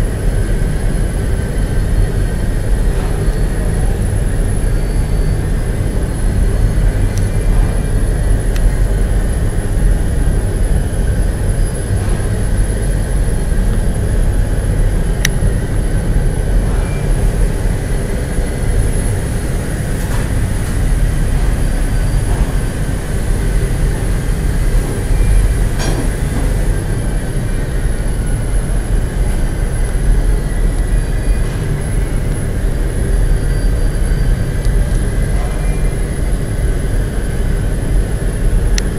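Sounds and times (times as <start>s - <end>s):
industrial machinery rumbling: 0.0s - 38.9s.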